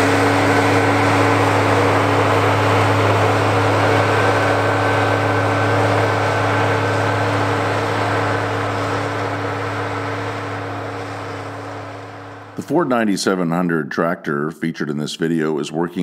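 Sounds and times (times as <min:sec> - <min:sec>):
tractor diesel engine running: 0:00.0 - 0:13.4.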